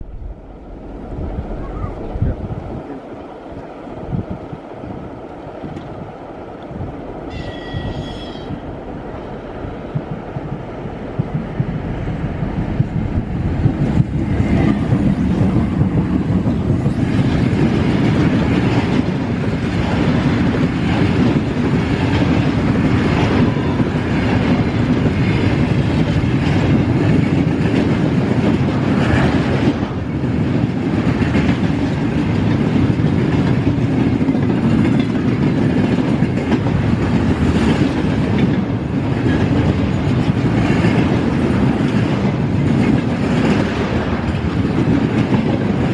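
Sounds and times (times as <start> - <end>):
train rumbling on rails: 0.0 - 45.9
train wheel clatter: 5.2 - 45.9.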